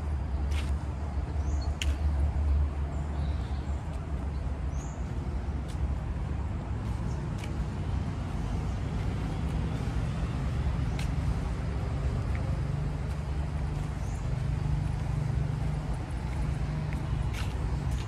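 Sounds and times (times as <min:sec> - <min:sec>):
low rumble of vehicle engines: 0:00.0 - 0:18.0.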